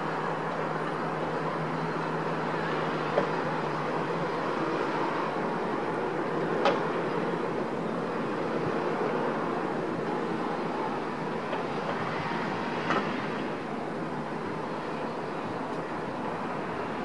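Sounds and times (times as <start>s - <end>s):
distant city traffic hum: 0.0s - 17.0s.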